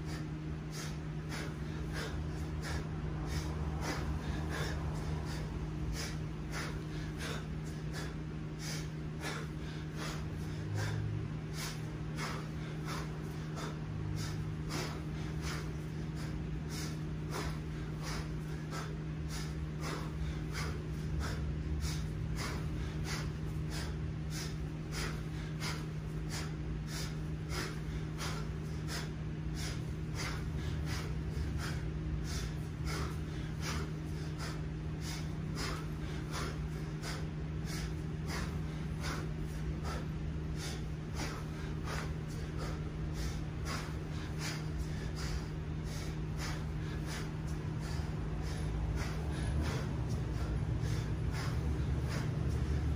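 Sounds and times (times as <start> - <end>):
man breathing hard: 0.0 - 52.9
steady low hum: 0.0 - 52.9.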